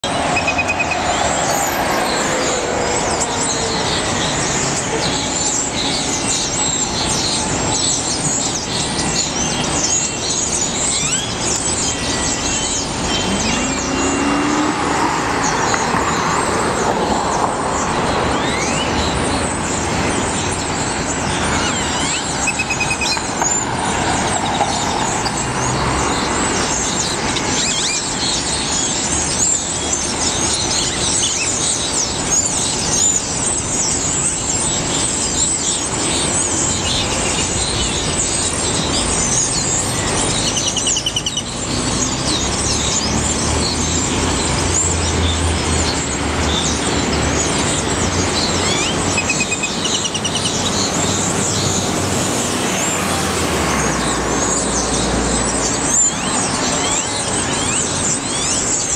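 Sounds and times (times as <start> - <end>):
birds chirping: 0.0 - 58.9
city traffic rumble: 0.0 - 58.9.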